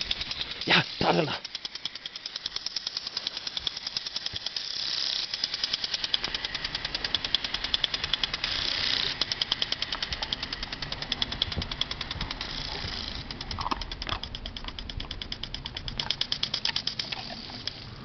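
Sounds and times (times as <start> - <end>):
impact sprinkler ticking: 0.0 - 18.0
water spray hissing: 0.0 - 18.0.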